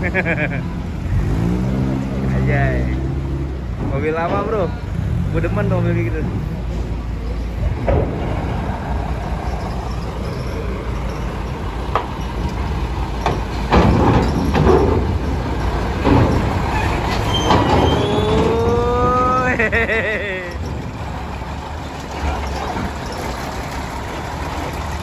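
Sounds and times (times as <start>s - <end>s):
diesel engine rumble: 0.0s - 25.0s
wheels clanking over steel grating: 0.0s - 25.0s.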